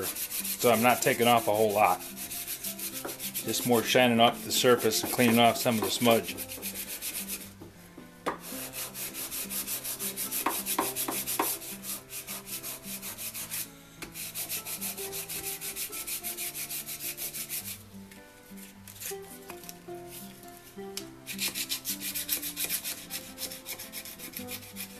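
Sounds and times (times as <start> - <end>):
sandpaper rubbing on wood: 0.0 - 7.5, 8.4 - 17.8, 18.6 - 19.4, 21.3 - 24.9.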